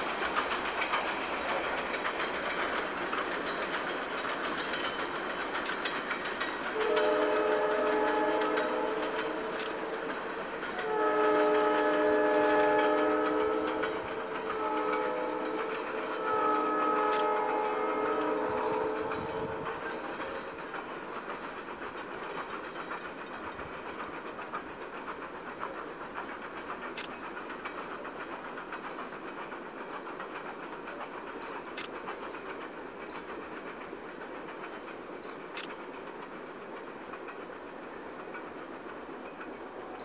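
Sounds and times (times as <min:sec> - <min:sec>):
train rumble and wheel clatter: 0:00.0 - 0:40.0.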